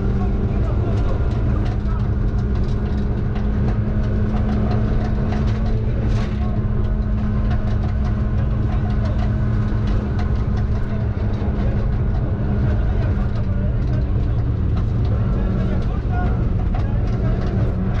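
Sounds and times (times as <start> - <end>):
car engine at high revs: 0.0 - 18.0
gravel ticking against car: 0.0 - 18.0
tyres rumbling on gravel: 0.0 - 18.0.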